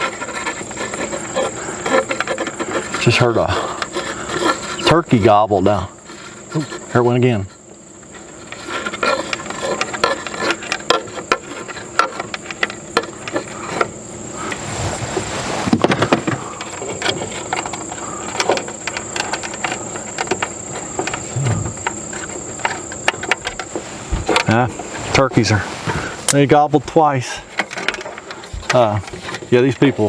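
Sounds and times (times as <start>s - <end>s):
clicks and knocks of hand work: 0.0s - 5.4s, 6.0s - 14.6s, 15.7s - 30.0s
high insect drone: 0.0s - 30.0s.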